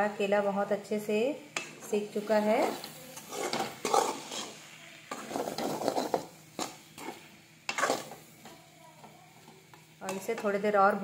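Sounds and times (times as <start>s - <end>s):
metal spatula scraping a pan: 1.6s - 10.6s.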